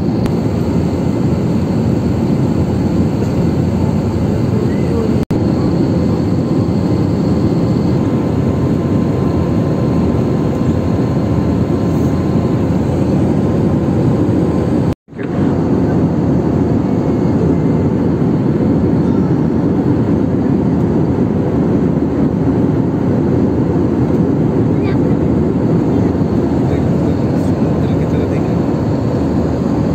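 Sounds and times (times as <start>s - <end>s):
jet airliner cabin noise: 0.0s - 29.9s.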